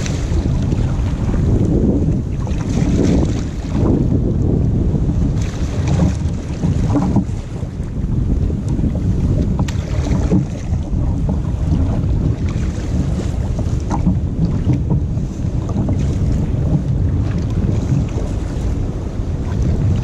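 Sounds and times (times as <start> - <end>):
paddle splashing in water: 0.0 - 20.0
wind buffeting microphone: 0.0 - 20.0.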